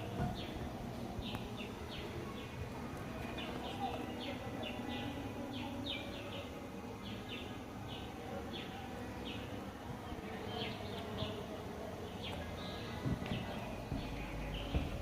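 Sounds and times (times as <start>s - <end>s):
birds chirping: 0.0s - 15.0s
low steady background noise: 0.0s - 15.0s.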